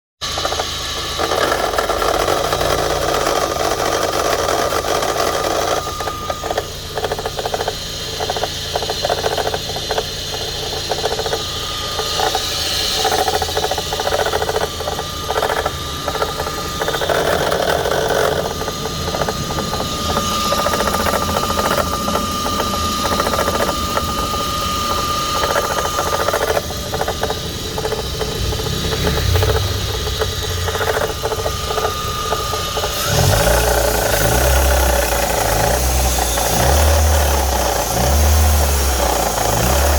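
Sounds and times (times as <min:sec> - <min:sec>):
car engine running: 0:00.2 - 0:39.9
high whine: 0:00.2 - 0:39.9.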